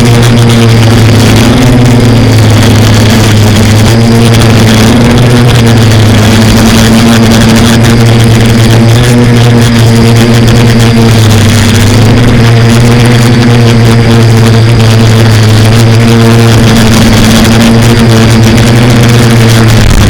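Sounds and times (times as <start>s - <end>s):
air noise: 0.0s - 20.0s
drone motors humming: 0.0s - 20.0s.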